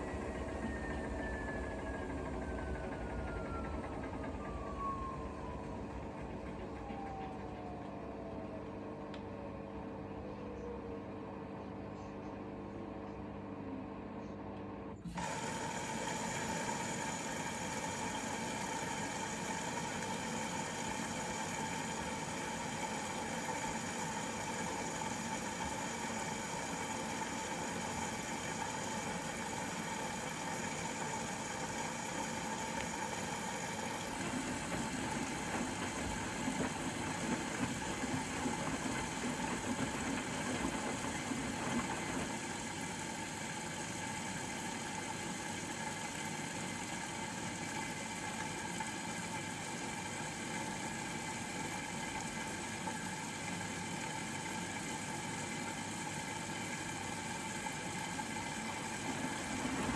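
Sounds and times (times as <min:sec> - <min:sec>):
washing drum rumbling and knocking: 0:00.0 - 0:08.6, 0:15.2 - 0:59.9
washing machine motor humming: 0:00.0 - 0:59.9.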